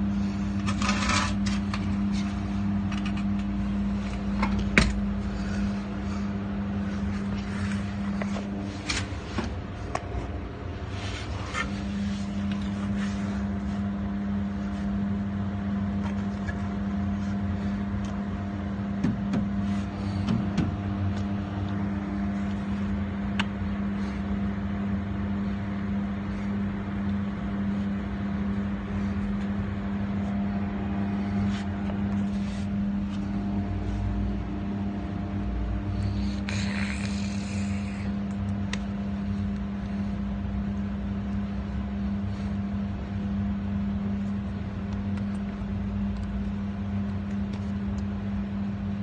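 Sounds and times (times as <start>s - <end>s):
steady mechanical hum: 0.0s - 49.0s.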